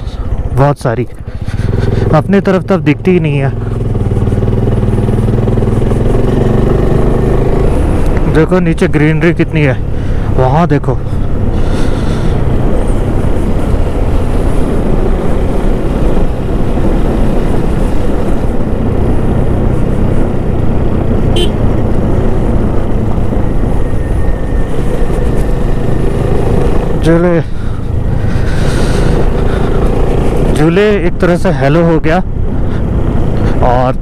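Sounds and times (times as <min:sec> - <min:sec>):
wind rushing over microphone: 0:00.0 - 0:34.0
motorcycle engine running: 0:01.1 - 0:33.6.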